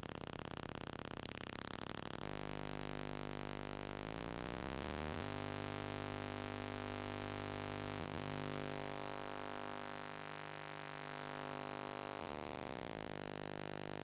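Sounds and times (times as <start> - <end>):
electromagnetic interference buzz and hum: 0.5 - 14.0.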